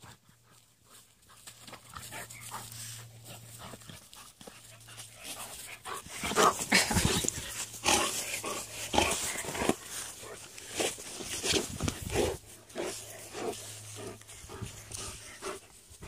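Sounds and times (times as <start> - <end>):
puppy panting: 0.0 - 16.0.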